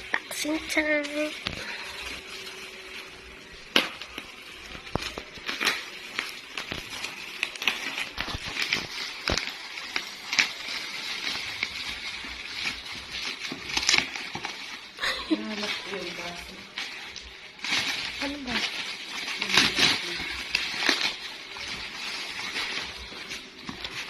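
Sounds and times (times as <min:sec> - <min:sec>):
packaging crackling and snapping: 0:00.0 - 0:24.0.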